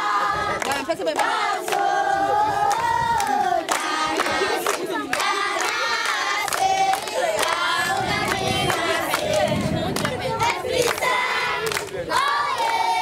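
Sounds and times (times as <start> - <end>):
children singing in unison: 0.0 - 0.6, 1.2 - 13.0
sharp claps: 0.6 - 1.9, 2.7 - 12.8.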